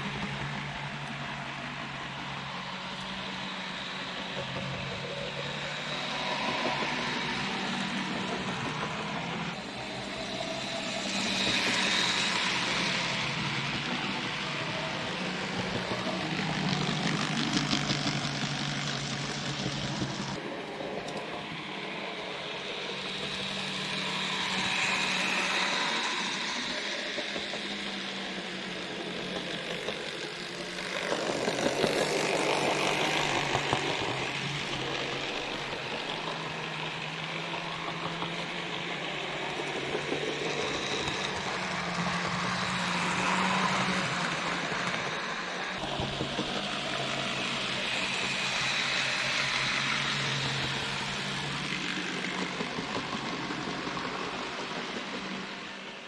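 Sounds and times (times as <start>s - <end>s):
model train motor hum: 0.0s - 56.0s
wheels rumbling on rails: 0.0s - 56.0s.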